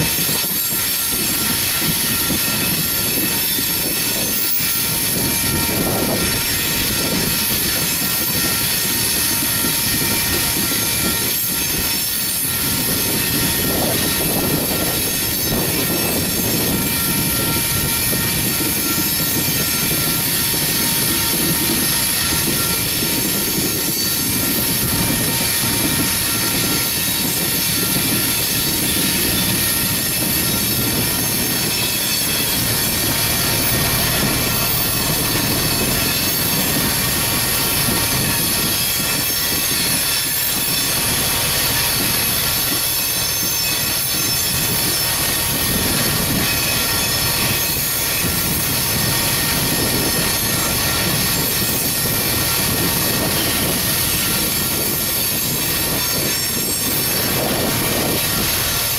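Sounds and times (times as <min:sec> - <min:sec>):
train wheels rolling on rail: 0:00.0 - 0:58.9
wheels squealing: 0:00.0 - 0:58.9.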